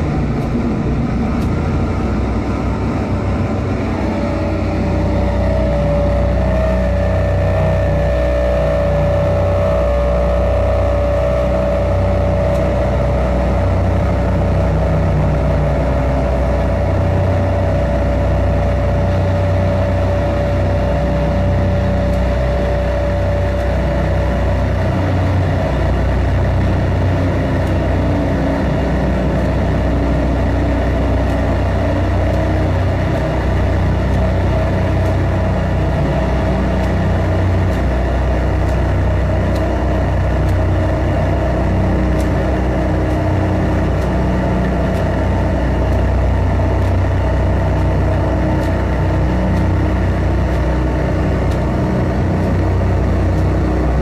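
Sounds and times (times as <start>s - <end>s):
drone-noise music: 0.0s - 54.0s.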